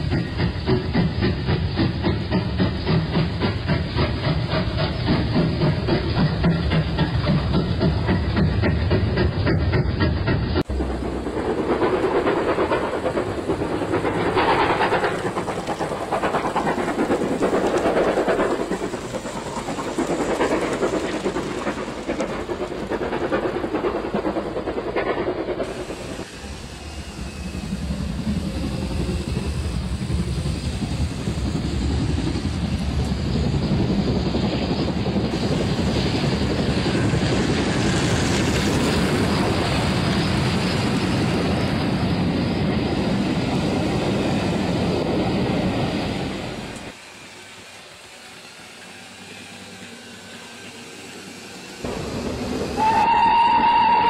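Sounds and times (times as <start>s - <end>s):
train clatter and hiss: 0.0s - 54.0s.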